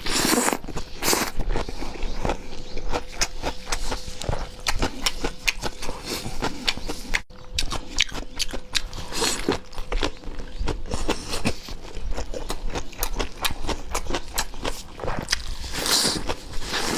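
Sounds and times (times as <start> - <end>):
wet chewing and smacking: 0.0 - 16.9.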